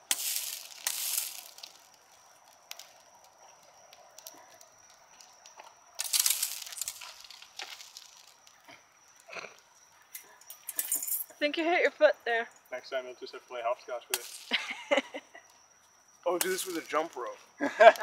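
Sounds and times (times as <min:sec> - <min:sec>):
embers crackling: 0:00.0 - 0:18.0.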